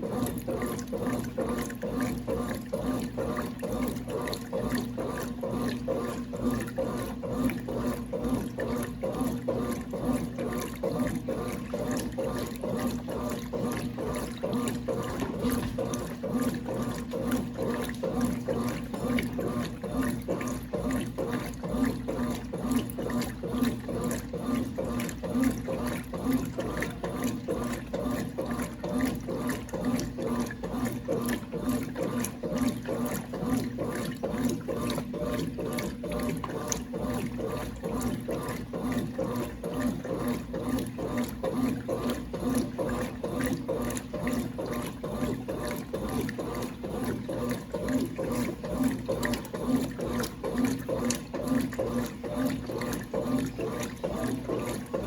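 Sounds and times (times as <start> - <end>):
washing machine hum: 0.0 - 55.0
water churning in washing machine: 0.0 - 55.0.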